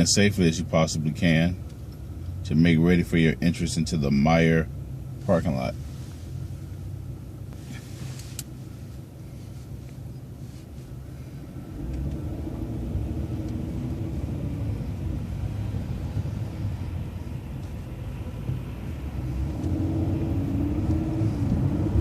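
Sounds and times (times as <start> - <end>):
faint steady whine: 0.0 - 21.8
vehicle road and engine rumble: 0.0 - 22.0.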